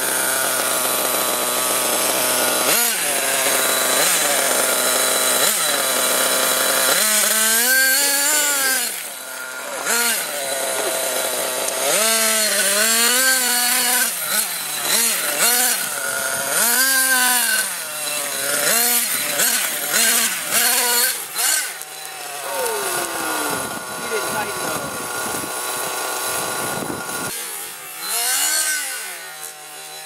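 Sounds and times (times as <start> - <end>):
rc truck engine revving: 0.0 - 30.0.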